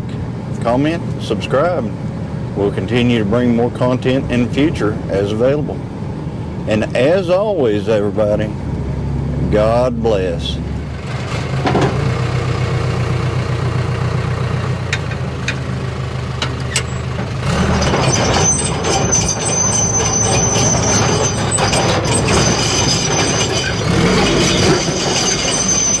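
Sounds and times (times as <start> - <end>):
rough rumbling with high squeal: 0.0 - 26.0
truck engine running: 0.0 - 26.0.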